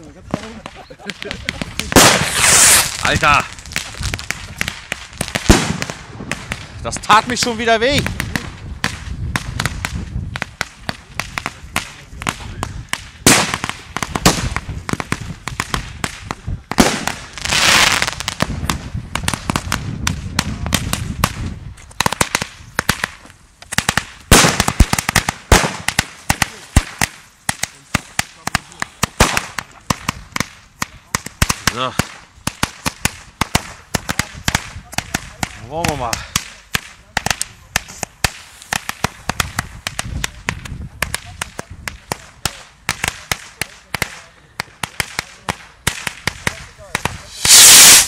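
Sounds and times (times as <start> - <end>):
firecrackers banging: 0.0 - 48.0.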